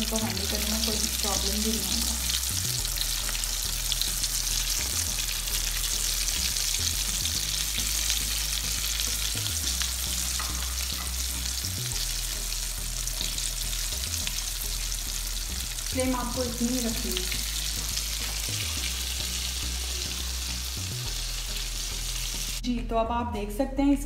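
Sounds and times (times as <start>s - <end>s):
food sizzling in hot oil: 0.0s - 22.6s.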